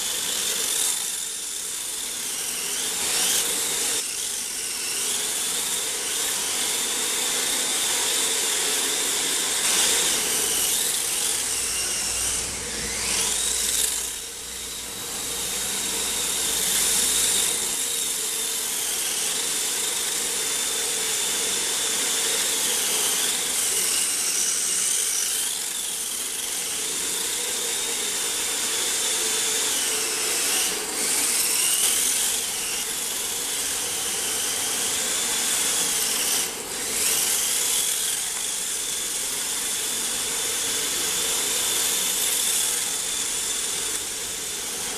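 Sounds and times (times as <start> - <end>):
electric motor whining: 0.0 - 44.9.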